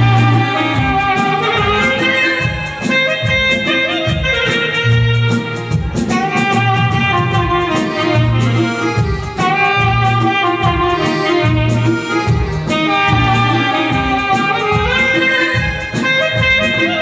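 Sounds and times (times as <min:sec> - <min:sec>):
band with bass and drums: 0:00.0 - 0:17.0
saxophone melody: 0:00.0 - 0:17.0.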